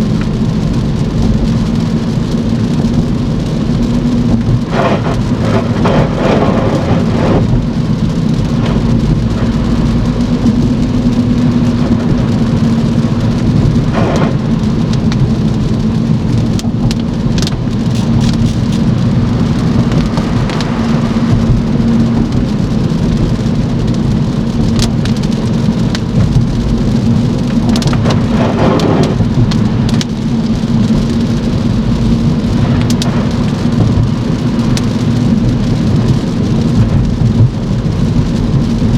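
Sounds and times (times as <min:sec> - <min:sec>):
rain beating on car: 0:00.0 - 0:38.9
road and engine rumble: 0:00.0 - 0:38.9.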